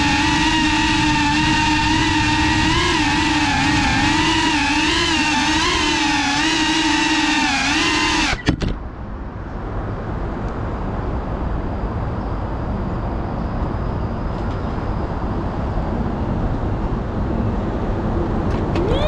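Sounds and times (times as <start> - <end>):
wavering high-pitched whine: 0.0 - 8.6, 10.6 - 17.6, 18.6 - 19.0
road traffic rumble: 0.0 - 19.0.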